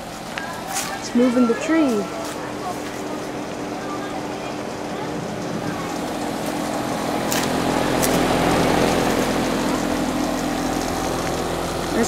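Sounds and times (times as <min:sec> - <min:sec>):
compressor humming: 0:00.0 - 0:12.0
fan air rushing: 0:00.0 - 0:12.0.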